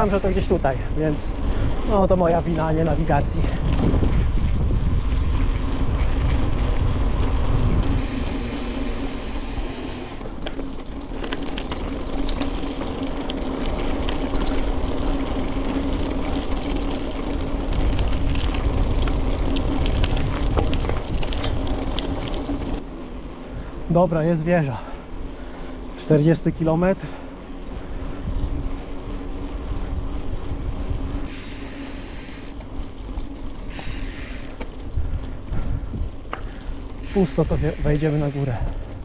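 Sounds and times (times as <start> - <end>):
wind rumble on microphone: 0.0 - 22.8, 27.0 - 37.9
bicycle tyre hum: 0.0 - 39.0
bike rattling and clicking: 0.0 - 39.0.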